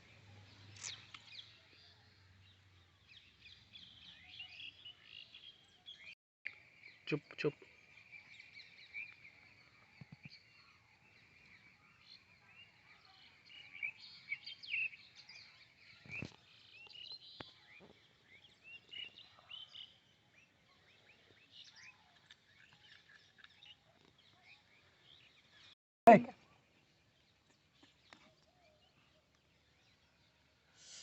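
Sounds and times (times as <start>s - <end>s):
faint bird chirping: 0.0s - 31.0s.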